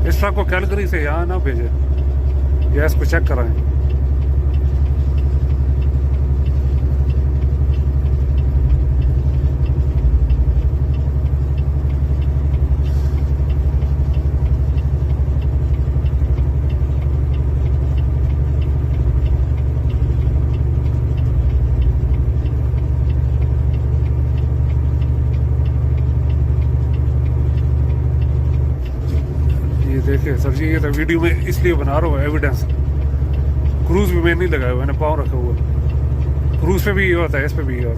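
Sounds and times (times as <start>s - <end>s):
truck diesel engine droning: 0.0s - 37.9s.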